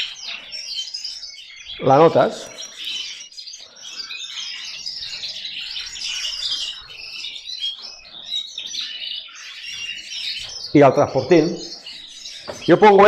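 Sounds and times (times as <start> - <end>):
canaries chirping and twittering: 0.0 - 13.0.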